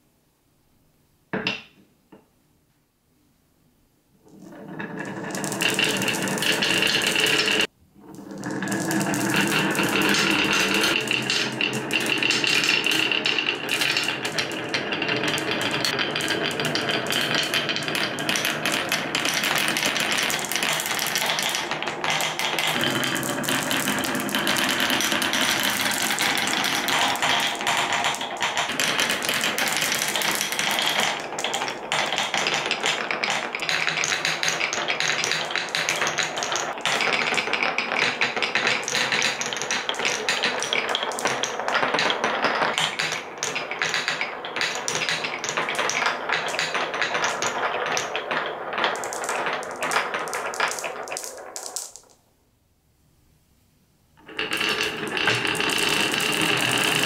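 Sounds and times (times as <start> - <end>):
marbles clattering down wooden tracks: 4.3 - 52.2, 54.2 - 57.0.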